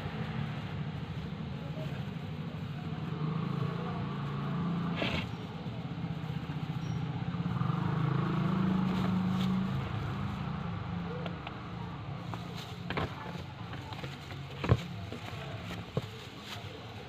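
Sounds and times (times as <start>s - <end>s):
engine running in traffic: 0.0s - 17.0s.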